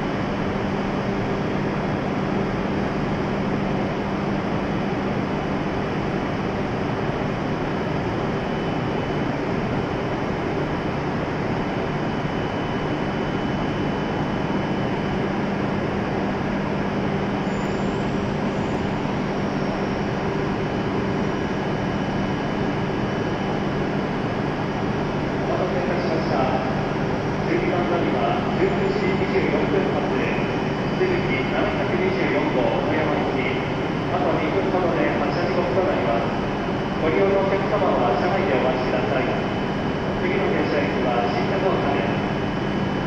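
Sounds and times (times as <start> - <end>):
train equipment whirring hum: 0.0 - 43.0.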